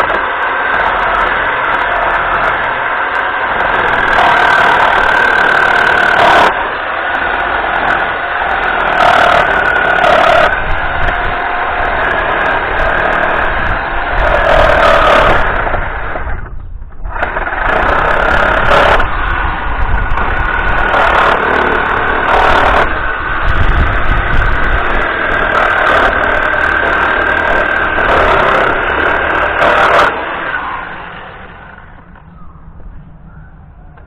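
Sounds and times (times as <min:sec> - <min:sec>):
power tool motor running: 0:00.0 - 0:32.1.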